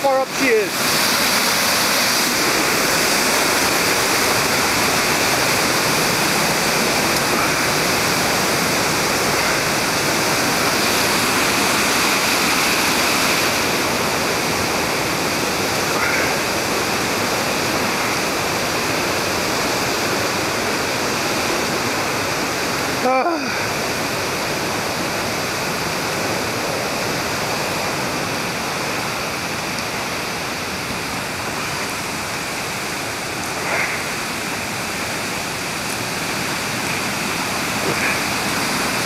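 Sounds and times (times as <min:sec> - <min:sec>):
creek rushing over rapids: 0:00.0 - 0:39.0.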